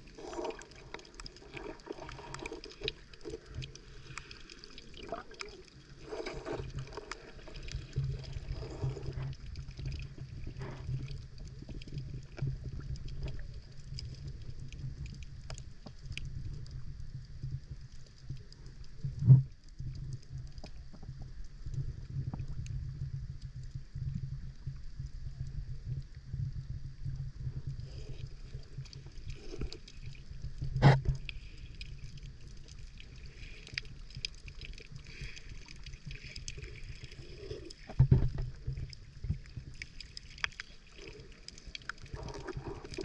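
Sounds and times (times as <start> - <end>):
faint clicks and crackles: 0.0 - 43.0
low underwater rumble: 0.0 - 43.0.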